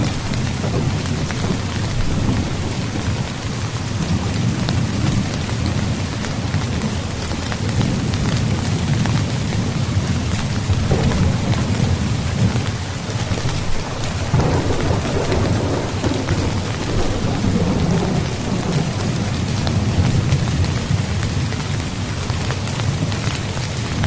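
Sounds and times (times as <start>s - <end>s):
rain pattering on a tent: 0.0s - 24.0s
thunder rumbling: 0.0s - 24.0s.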